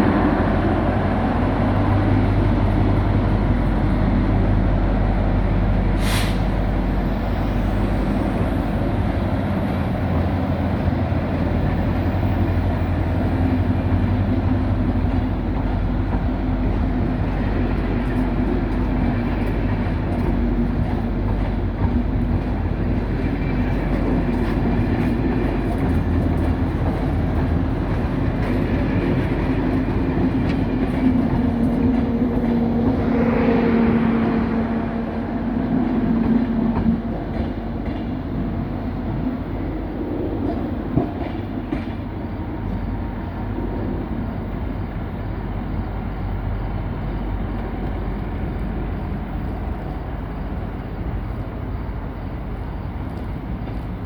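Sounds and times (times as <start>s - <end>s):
locomotive engine and wheels rumble: 0.0s - 54.0s.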